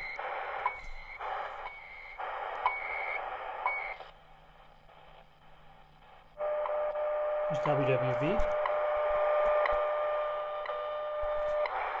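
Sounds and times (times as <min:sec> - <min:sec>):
radio static bursts: 0:00.0 - 0:12.0
radio tuning click: 0:00.0 - 0:12.0.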